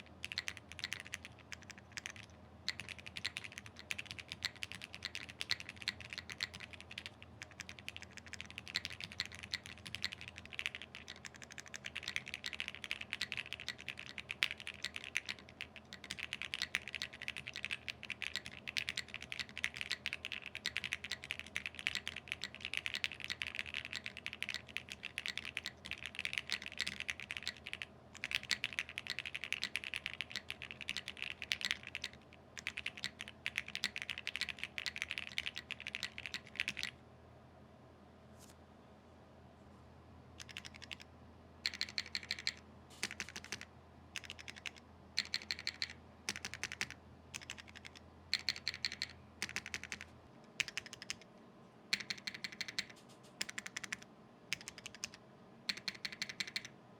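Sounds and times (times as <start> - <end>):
mechanical keyboard typing: 0.0 - 37.0, 40.4 - 51.3, 51.9 - 56.8.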